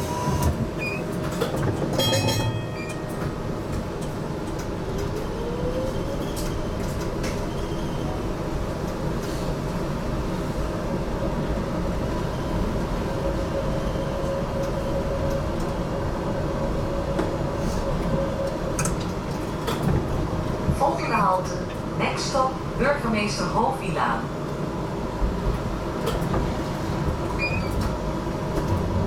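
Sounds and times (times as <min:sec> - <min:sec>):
tram wheels rumbling on rail: 0:00.0 - 0:29.0.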